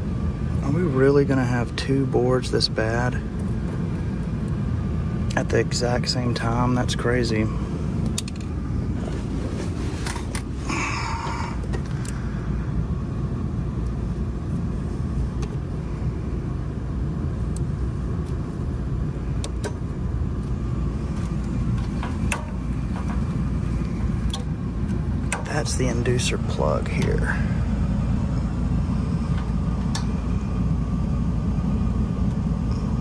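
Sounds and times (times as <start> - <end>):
low machinery rumble: 0.0 - 33.0.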